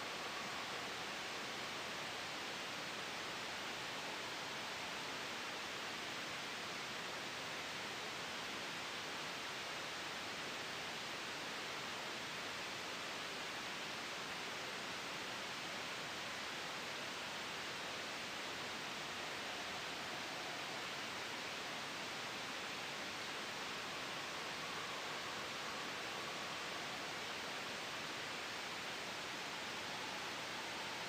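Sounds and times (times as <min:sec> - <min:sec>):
white noise hiss: 0:00.0 - 0:31.0.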